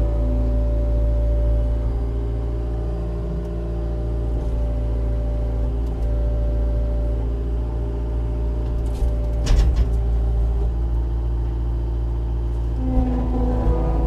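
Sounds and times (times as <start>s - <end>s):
engine humming at low speed: 0.0s - 14.0s.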